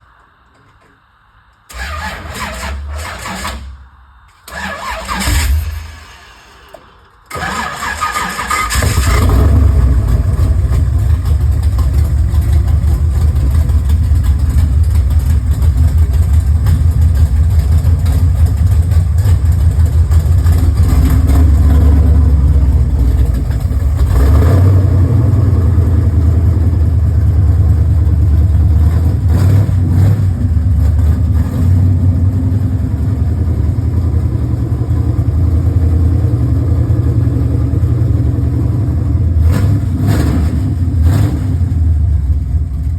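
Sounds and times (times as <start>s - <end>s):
car engine starting and idling: 1.7s - 42.9s
car engine revving: 4.4s - 37.0s, 37.9s - 42.5s.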